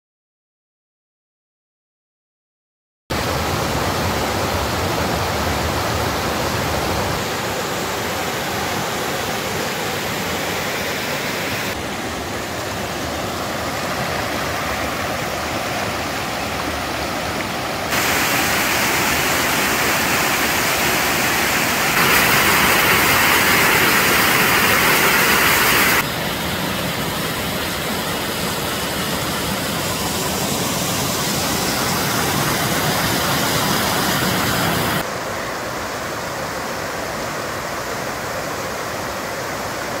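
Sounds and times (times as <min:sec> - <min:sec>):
mountain stream rushing over rocks: 0:03.2 - 0:40.0.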